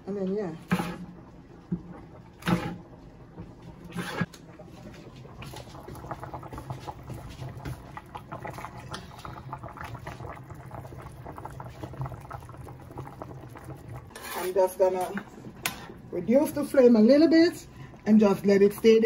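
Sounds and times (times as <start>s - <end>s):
soup boiling and bubbling: 0.3s - 19.0s.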